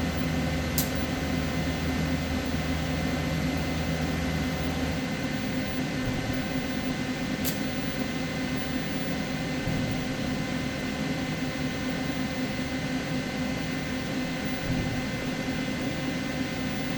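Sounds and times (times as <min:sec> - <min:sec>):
welding hum and hiss: 0:00.0 - 0:16.9.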